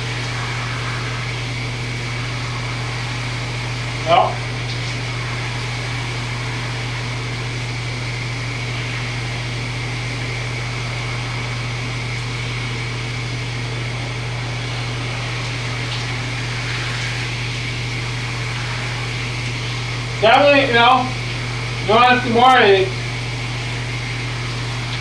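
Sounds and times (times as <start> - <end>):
shower water spray hissing: 0.0 - 25.0.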